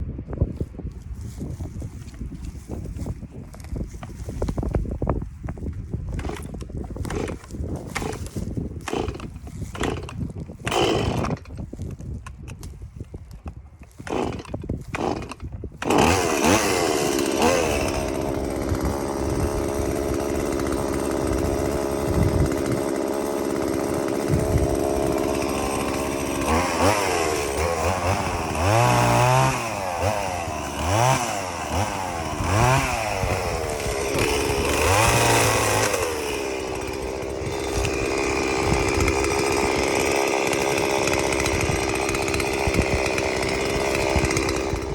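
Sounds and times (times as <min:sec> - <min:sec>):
chainsaw running and revving: 0:06.1 - 0:12.3, 0:13.8 - 0:44.9.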